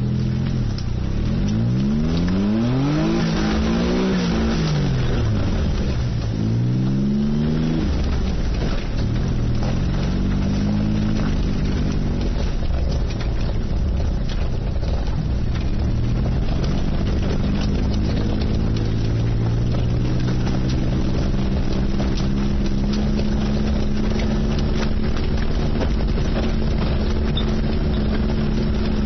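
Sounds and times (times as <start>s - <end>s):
car engine running under load: 0.0s - 29.0s.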